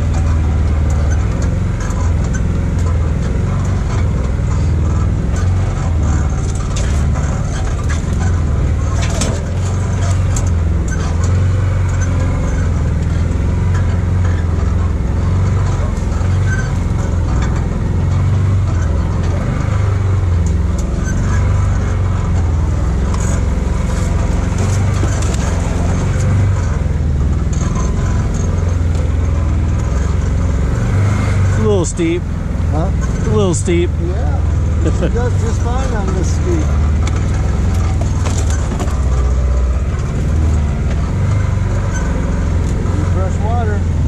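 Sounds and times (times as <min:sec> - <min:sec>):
vehicle engine running: 0:00.0 - 0:44.0.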